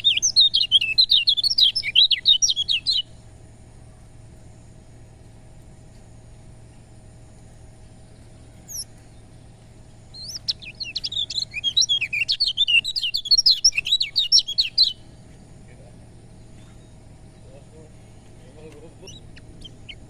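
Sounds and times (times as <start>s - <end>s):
bird twittering song: 0.0s - 5.1s, 5.8s - 20.0s
faint steady hum: 0.0s - 20.0s.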